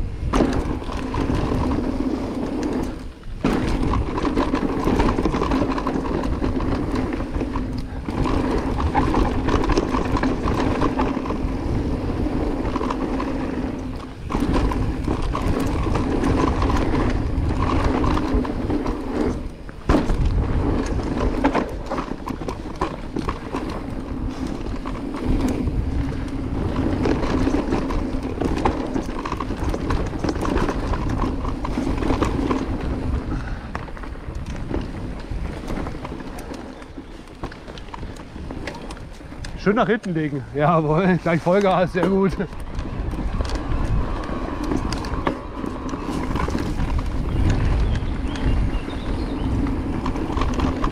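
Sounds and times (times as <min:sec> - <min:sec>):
bike rattling on bumps: 0:00.0 - 0:50.9
tyres rumbling on dirt: 0:00.0 - 0:50.9.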